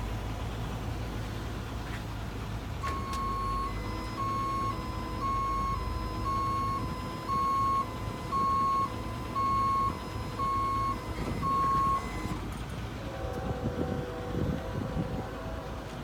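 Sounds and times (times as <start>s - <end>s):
truck engine running: 0.0s - 16.0s
low hydraulic whine: 2.8s - 16.0s
truck warning beeper: 2.8s - 16.0s.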